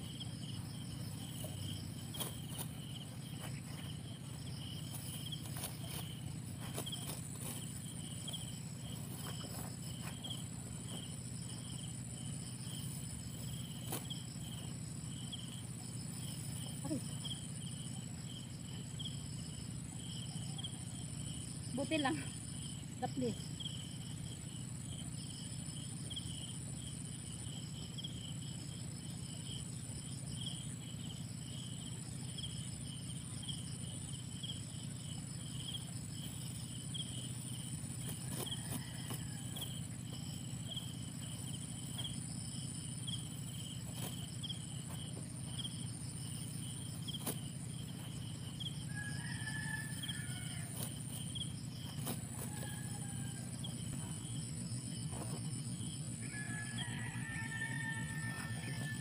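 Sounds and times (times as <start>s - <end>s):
high-pitched insect drone: 0.0s - 59.0s
insects chirping: 0.0s - 59.0s.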